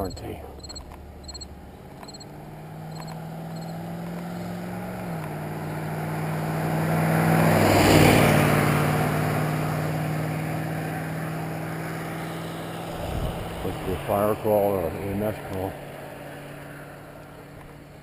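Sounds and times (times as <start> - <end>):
truck engine driving past: 0.0 - 17.6.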